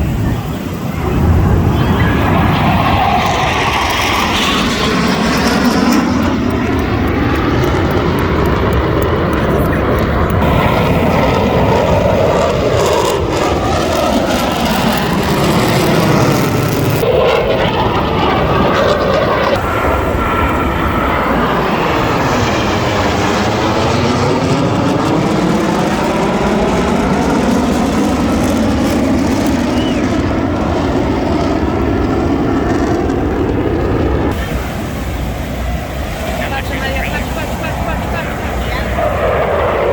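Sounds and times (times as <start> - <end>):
jets flying past: 0.0 - 39.9.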